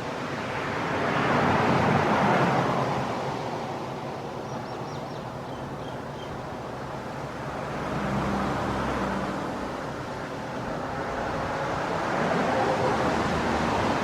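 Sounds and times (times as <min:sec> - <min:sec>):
cars passing by: 0:00.0 - 0:14.0.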